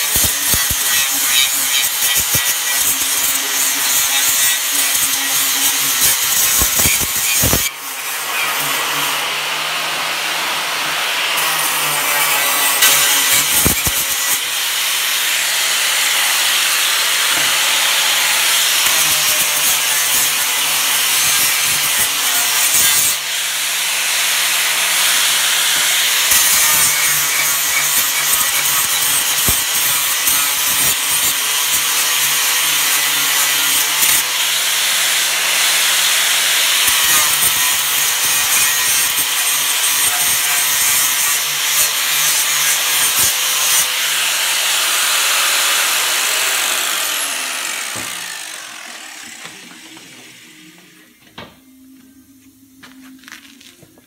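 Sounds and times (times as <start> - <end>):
angle grinder grinding steel: 0.0 - 51.2.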